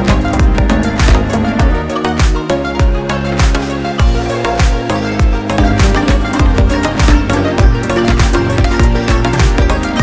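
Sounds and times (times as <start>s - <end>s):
electronic dance music: 0.0s - 10.0s
thumping kick drums: 0.0s - 10.0s.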